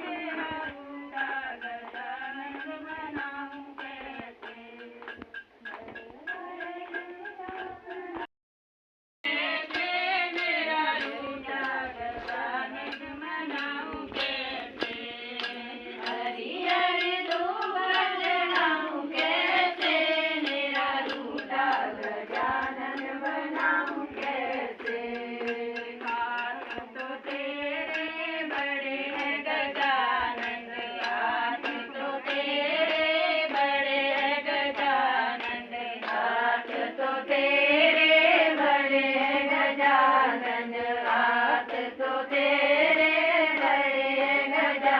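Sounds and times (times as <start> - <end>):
hand claps: 0.0 - 8.3, 9.6 - 44.9
women singing a hymn: 0.0 - 8.3, 9.3 - 44.9.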